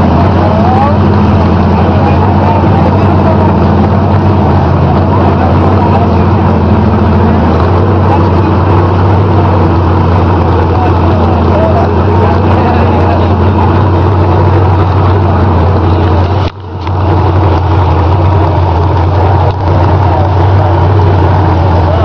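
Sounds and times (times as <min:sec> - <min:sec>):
pickup engine running: 0:00.0 - 0:22.0.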